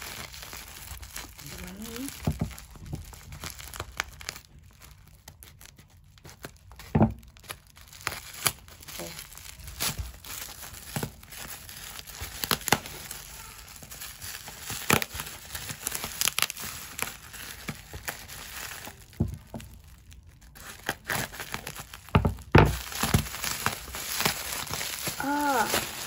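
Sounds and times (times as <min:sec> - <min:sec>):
plastic packaging crinkling and tearing: 0:00.0 - 0:26.0.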